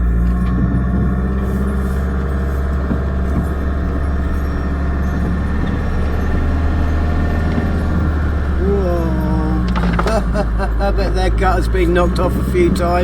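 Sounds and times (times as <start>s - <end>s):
engine and road noise drone: 0.0s - 13.0s.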